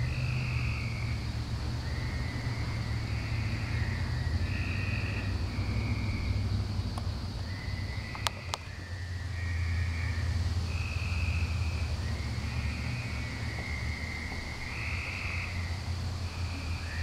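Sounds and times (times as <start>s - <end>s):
frogs trilling: 0.0s - 17.0s
steady low hum: 0.0s - 17.0s.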